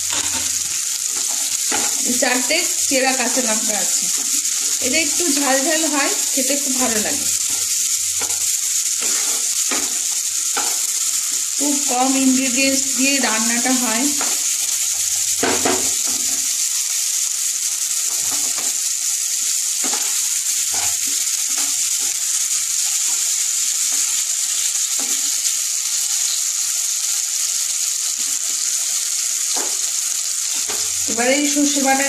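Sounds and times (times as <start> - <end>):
vegetables sizzling in oil: 0.0 - 32.0.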